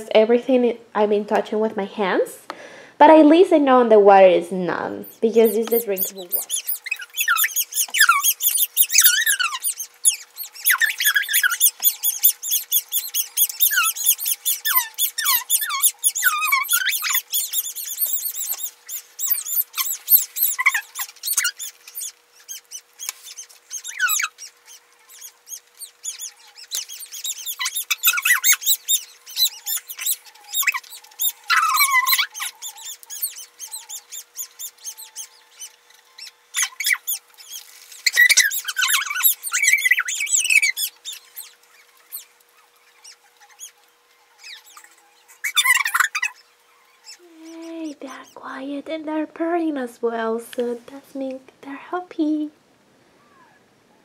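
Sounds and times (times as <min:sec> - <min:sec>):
faint steady hum: 0:00.0 - 0:54.0
kittens squeaking: 0:04.8 - 0:48.6.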